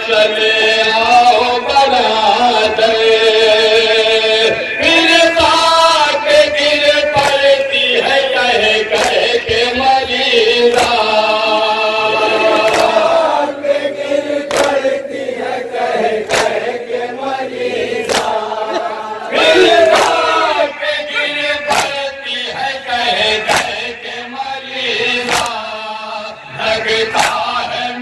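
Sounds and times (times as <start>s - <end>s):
men chanting in chorus: 0.0s - 28.0s
rhythmic chest-beating slaps: 0.1s - 28.0s.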